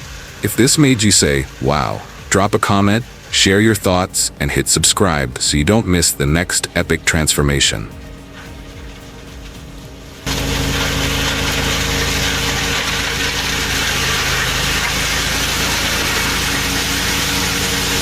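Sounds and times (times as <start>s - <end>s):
heavy machinery engine: 0.0s - 18.0s
loud machine hiss: 0.0s - 18.0s.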